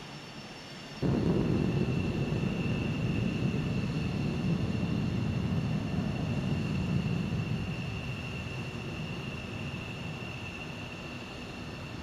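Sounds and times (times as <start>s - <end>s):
jet engine idling: 1.0s - 12.0s.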